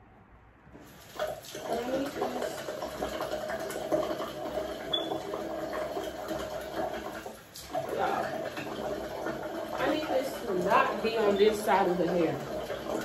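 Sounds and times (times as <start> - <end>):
running water: 0.7 - 13.0.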